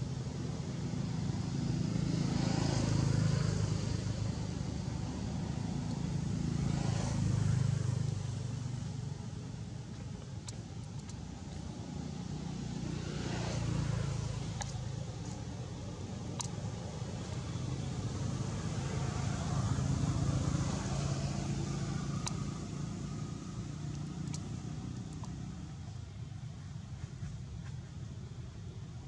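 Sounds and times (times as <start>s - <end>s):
steady engine drone: 0.0s - 29.0s
vehicles passing: 0.0s - 29.0s.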